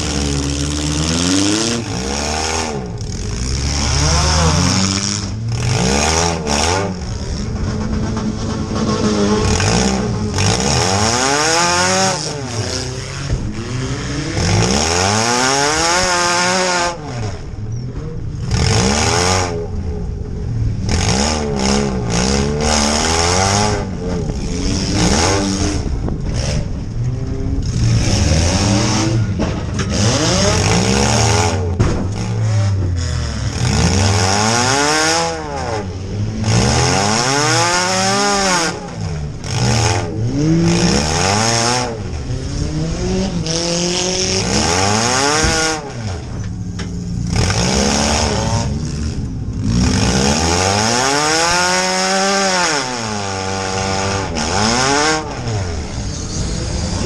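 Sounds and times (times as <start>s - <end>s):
car engine revving hard: 0.0s - 17.6s, 18.4s - 57.0s.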